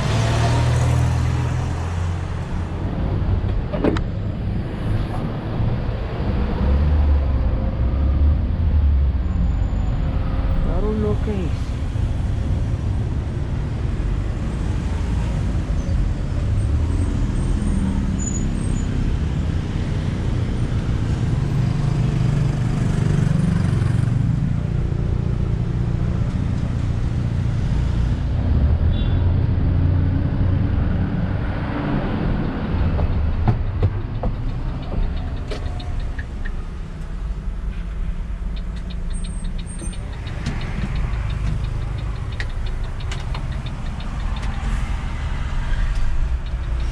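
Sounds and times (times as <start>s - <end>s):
bus engine low rumble: 0.0s - 46.9s.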